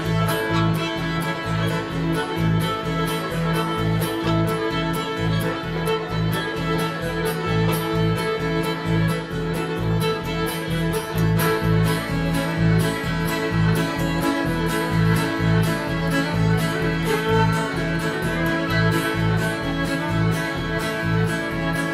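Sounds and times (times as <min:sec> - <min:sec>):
fiddles playing melody: 0:00.0 - 0:21.9
guitar: 0:00.0 - 0:21.9
mandolin: 0:00.0 - 0:21.9
upright bass: 0:00.0 - 0:21.9.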